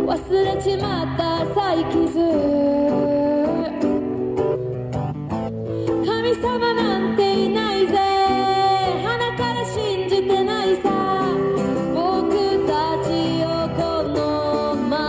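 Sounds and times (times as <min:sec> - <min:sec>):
woman singing: 0:00.0 - 0:04.0, 0:06.0 - 0:15.0
guitar accompaniment: 0:00.0 - 0:15.0.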